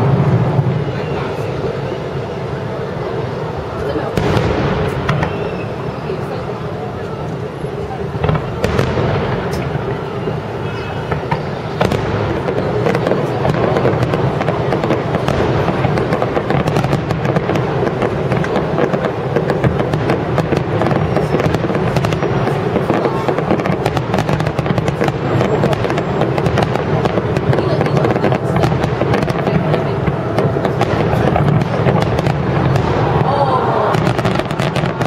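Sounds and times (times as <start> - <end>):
continuous noisy wash: 0.0 - 35.0
fireworks pops and bangs: 3.7 - 35.0.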